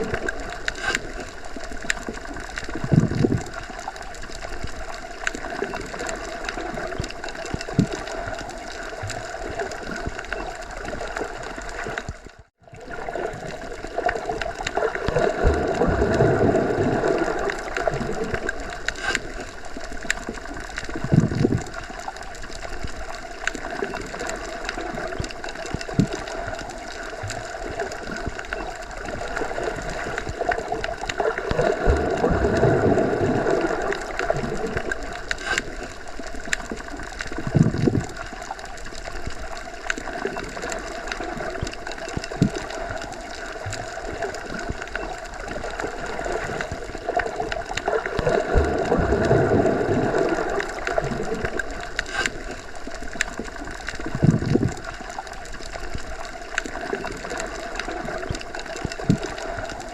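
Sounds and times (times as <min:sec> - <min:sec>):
low water surge: 0:00.0 - 0:59.9
water rushing underwater: 0:00.0 - 0:59.9.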